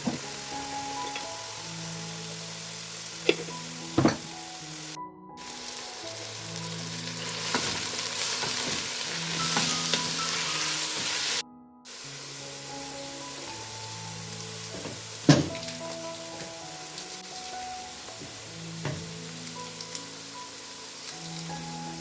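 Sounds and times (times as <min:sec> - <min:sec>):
slow music with held notes: 0:00.0 - 0:22.0
steady hiss: 0:00.0 - 0:22.0.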